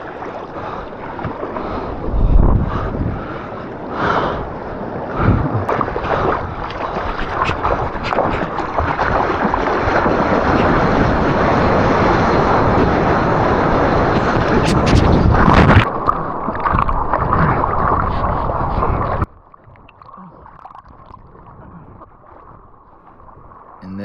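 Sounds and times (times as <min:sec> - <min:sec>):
wind buffeting microphone: 0:00.0 - 0:19.8, 0:20.9 - 0:23.8
ocean water rushing: 0:00.0 - 0:24.0.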